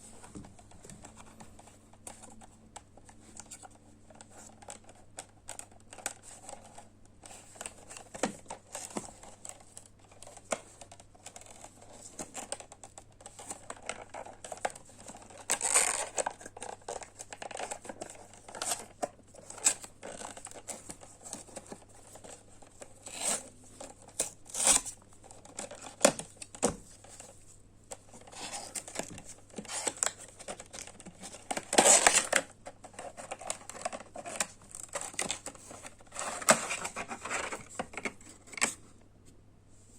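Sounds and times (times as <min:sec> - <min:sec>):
packaging crinkling and tearing: 0:03.4 - 0:27.4, 0:28.0 - 0:38.8.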